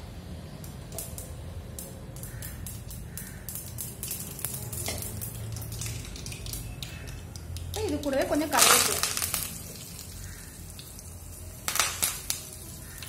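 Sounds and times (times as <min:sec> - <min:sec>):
seeds crackling in hot oil: 0:00.2 - 0:13.0.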